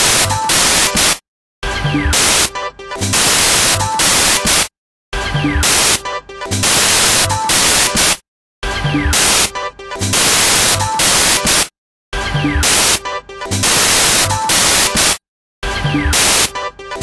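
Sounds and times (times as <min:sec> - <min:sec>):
electronic music with static bursts: 0:00.0 - 0:08.2, 0:08.8 - 0:11.7, 0:12.3 - 0:17.0.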